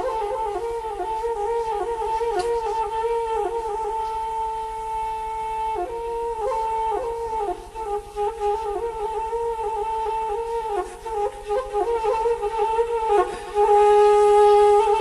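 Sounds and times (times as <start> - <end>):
flute solo melody: 0.0 - 15.0.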